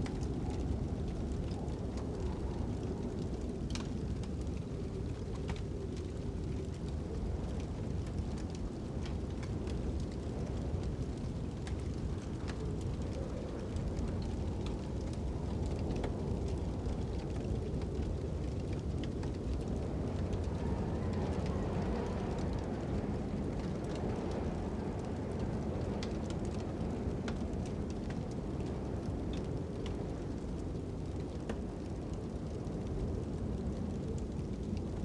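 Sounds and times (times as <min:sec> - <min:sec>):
fire crackling and popping: 0:00.0 - 0:35.0.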